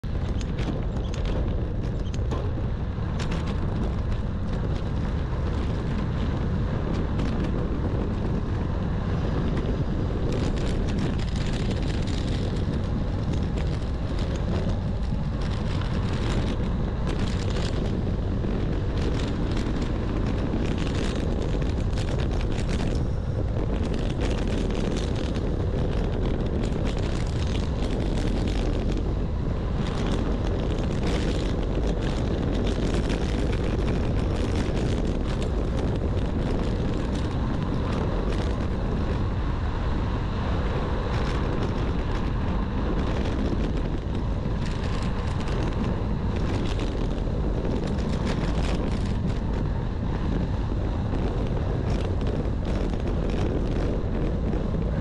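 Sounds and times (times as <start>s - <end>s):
bicycle rattling on rough ground: 0.0s - 55.0s
wind rumbling on microphone: 0.0s - 55.0s.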